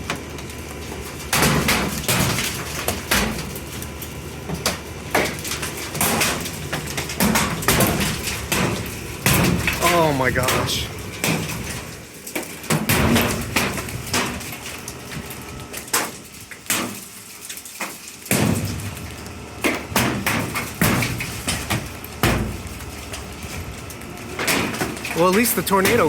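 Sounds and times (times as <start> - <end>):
hailstones hitting metal awning: 0.0 - 26.0
hiss of falling hail and rain: 0.0 - 26.0.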